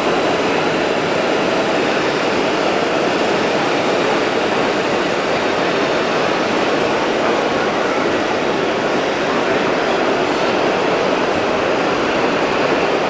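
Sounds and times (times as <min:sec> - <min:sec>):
busy exhibition hall din: 0:00.0 - 0:13.0.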